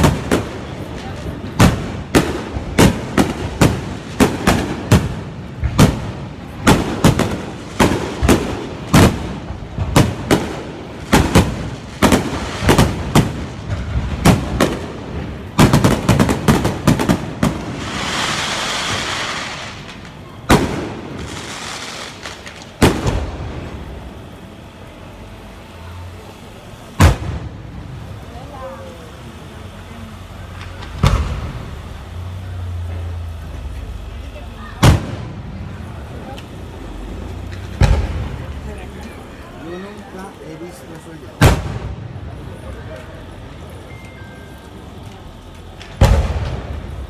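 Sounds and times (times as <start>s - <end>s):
firework bangs: 0.0s - 43.7s, 45.7s - 47.0s
firework crackling: 0.0s - 47.0s.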